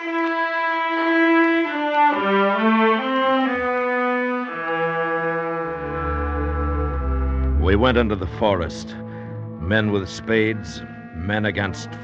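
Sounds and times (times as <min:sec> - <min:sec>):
orchestral strings and brass: 0:00.0 - 0:12.0.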